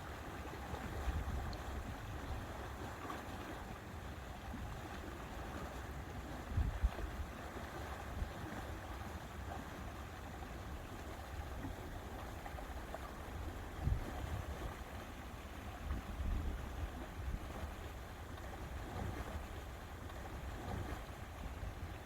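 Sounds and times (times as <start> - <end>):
wind rumble on microphone: 0.7 - 3.8, 4.4 - 9.0, 10.9 - 22.0.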